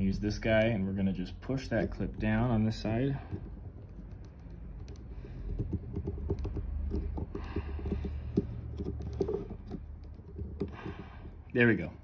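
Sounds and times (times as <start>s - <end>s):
plastic clicks and creaks: 1.8s - 11.5s.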